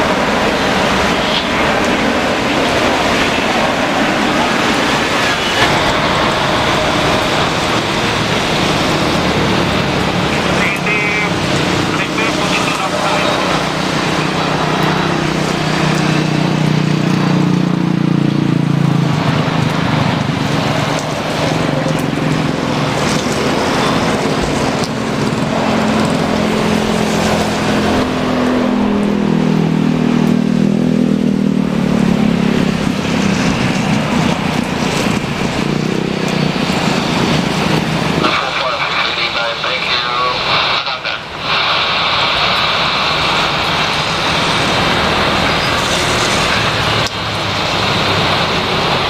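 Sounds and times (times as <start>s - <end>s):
jet engines running: 0.0s - 49.0s
steady rushing noise: 0.0s - 49.0s.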